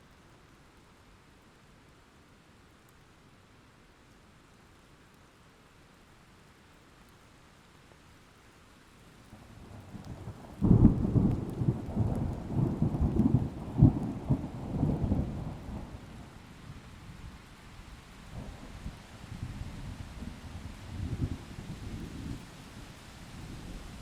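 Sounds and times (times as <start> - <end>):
rain: 0.0 - 24.0.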